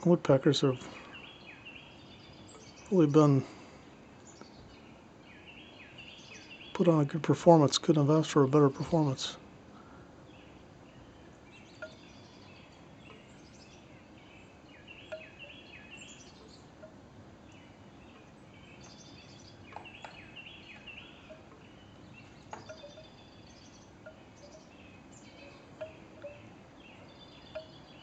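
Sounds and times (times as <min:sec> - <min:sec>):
low steady hiss: 0:00.0 - 0:28.0
small birds chirping: 0:00.0 - 0:28.0.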